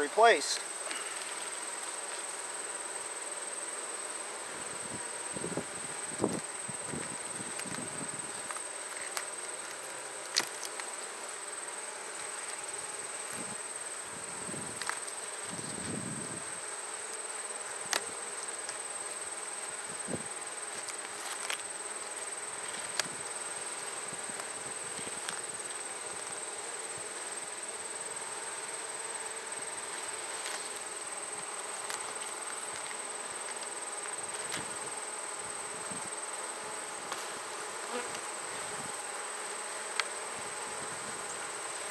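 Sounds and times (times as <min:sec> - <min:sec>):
honey bees buzzing: 0:00.0 - 0:41.9.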